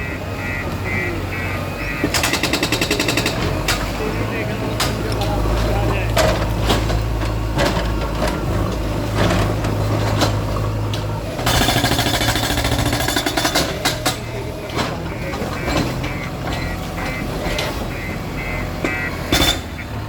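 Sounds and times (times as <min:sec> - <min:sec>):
diesel engine running: 0:00.0 - 0:20.0
scattered knocks: 0:01.4 - 0:20.0
rapid pounding and crashing: 0:02.0 - 0:19.9.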